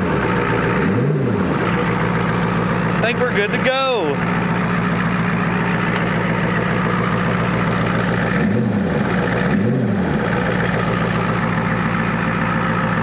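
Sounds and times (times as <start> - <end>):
diesel engine idling and revving: 0.0 - 13.0.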